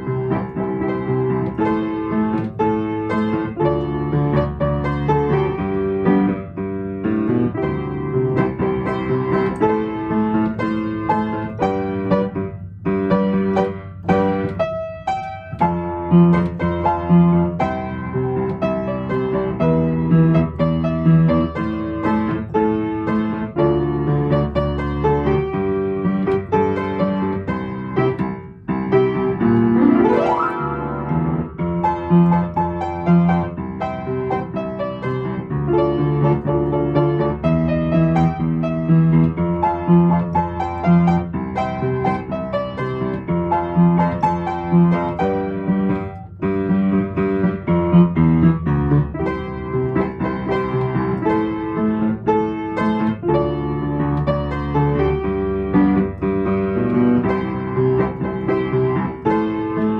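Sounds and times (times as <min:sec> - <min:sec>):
keyboard instrumental music: 0:00.0 - 0:59.9.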